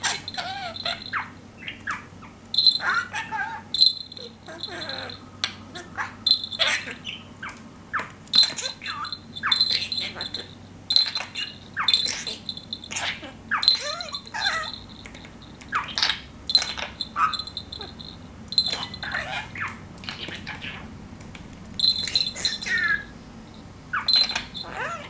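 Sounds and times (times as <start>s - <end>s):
budgerigar chattering and warbling: 0.0s - 14.8s, 15.7s - 20.9s, 21.8s - 23.1s, 23.9s - 25.0s.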